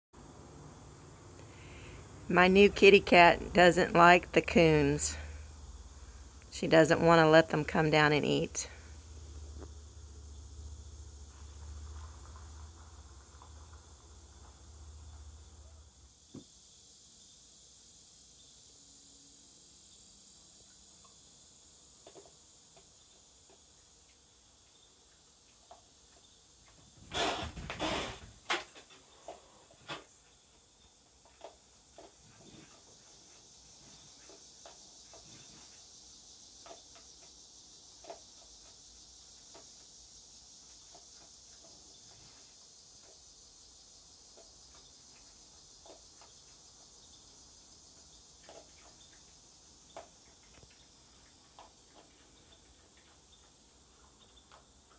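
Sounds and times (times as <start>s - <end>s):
crickets chirping: 0.2s - 54.9s
insects hissing: 0.2s - 54.9s.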